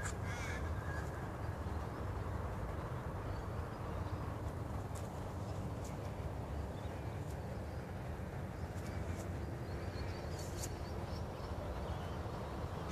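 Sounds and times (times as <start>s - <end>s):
steady low rumble: 0.0s - 12.9s.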